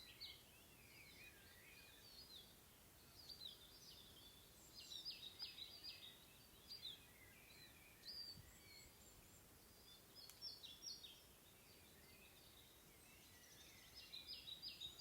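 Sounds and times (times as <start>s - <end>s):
outdoor background hiss: 0.0s - 15.0s
songbird chirps: 0.0s - 15.0s.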